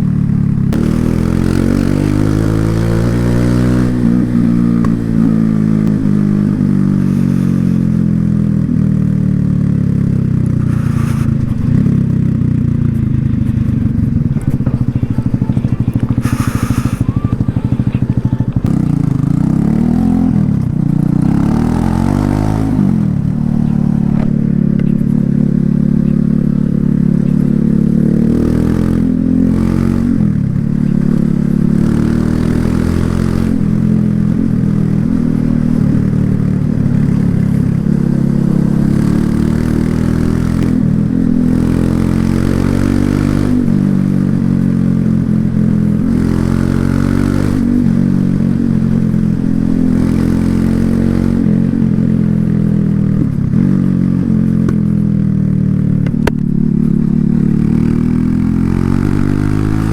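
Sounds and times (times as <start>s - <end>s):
motorcycle engine exhaust: 0.0s - 59.9s.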